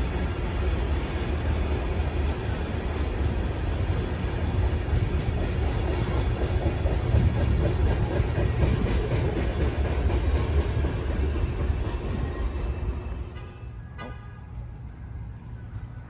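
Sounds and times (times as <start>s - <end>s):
wheels clickety-clack: 0.0s - 14.3s
freight train wheels rumbling: 0.0s - 16.0s.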